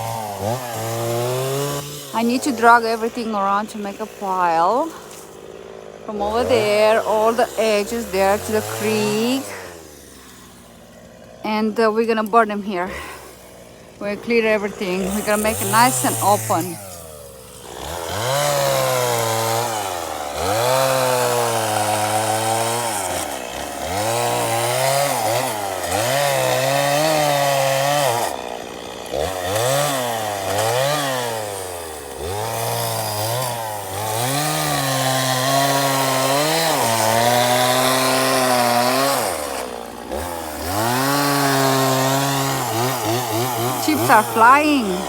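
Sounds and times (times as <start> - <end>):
chainsaw revving cutting wood: 0.0 - 45.0.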